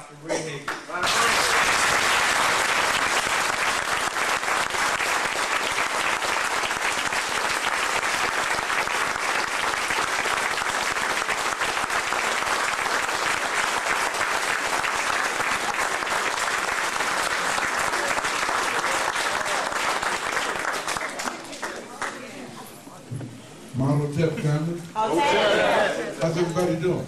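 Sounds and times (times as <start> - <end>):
large audience clapping: 0.6 - 22.4.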